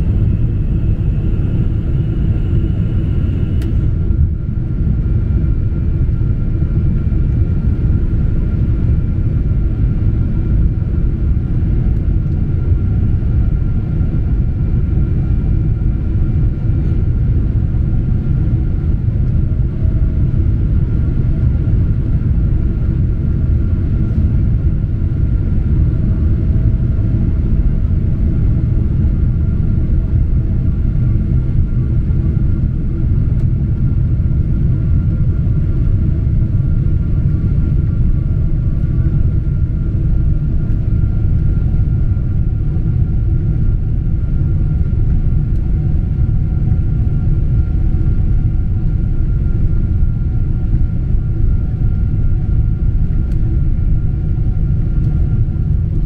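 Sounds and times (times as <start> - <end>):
airliner cabin rumble: 0.0 - 56.0
faint steady hum tones: 0.0 - 56.0.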